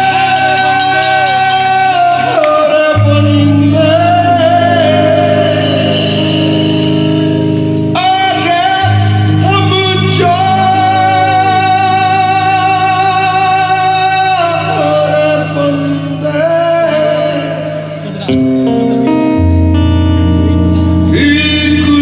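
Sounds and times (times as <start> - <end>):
person singing long notes: 0.0 - 18.6, 19.4 - 22.0
live band music: 0.0 - 22.0.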